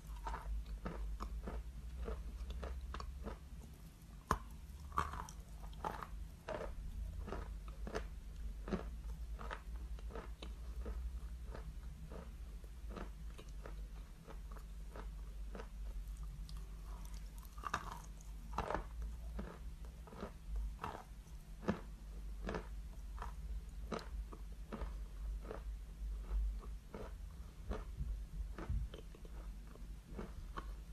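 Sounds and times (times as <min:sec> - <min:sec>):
person chewing chalk: 0:00.0 - 0:30.9.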